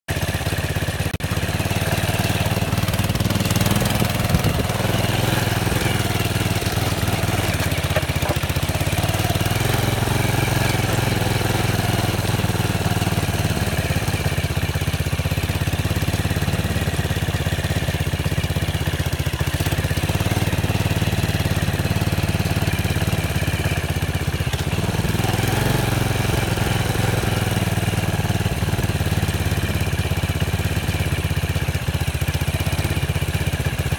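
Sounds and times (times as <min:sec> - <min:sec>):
atv engine running: 0:00.1 - 0:33.9.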